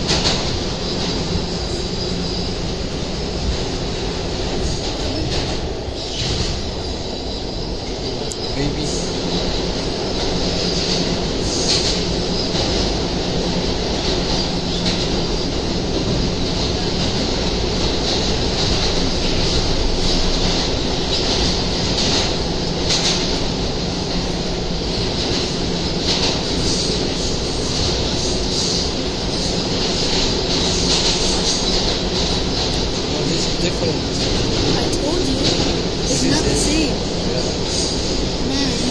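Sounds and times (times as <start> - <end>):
subway car rumble: 0.0 - 38.9.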